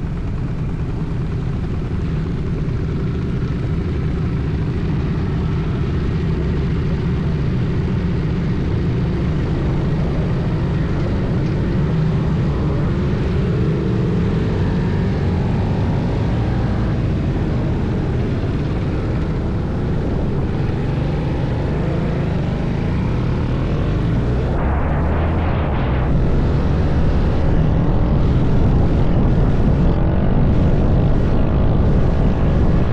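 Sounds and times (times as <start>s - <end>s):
motorcycle engine running: 0.0s - 32.9s
wind rushing over microphone: 0.0s - 32.9s.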